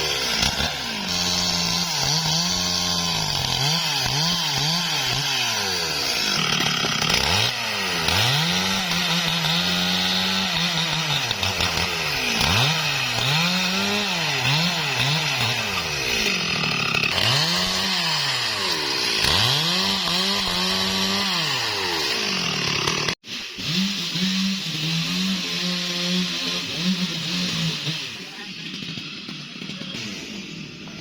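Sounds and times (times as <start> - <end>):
chainsaw cutting into tree: 0.0 - 31.0.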